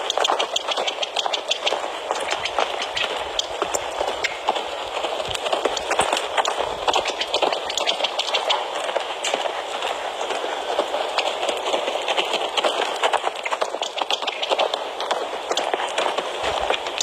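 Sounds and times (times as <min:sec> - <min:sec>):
horse hoofbeats on dirt: 0:00.0 - 0:17.0
steady hiss: 0:00.0 - 0:17.0.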